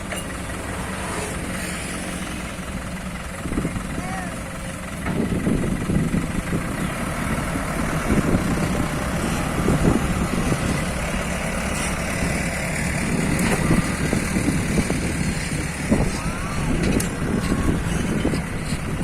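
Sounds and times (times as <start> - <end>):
heavy diesel engines rumbling: 0.0 - 19.0.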